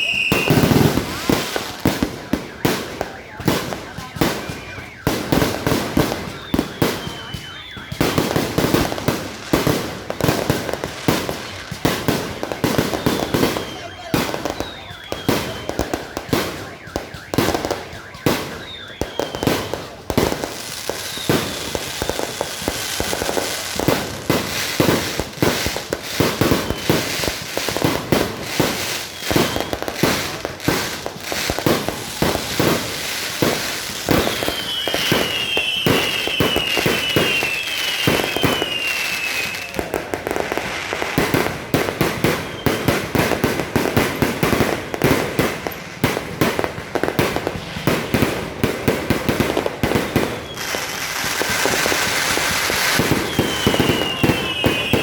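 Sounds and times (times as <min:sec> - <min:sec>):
fireworks bangs: 0:00.0 - 0:55.0
fireworks crackling: 0:00.0 - 0:55.0
fireworks whistles falling in pitch: 0:00.0 - 0:55.0.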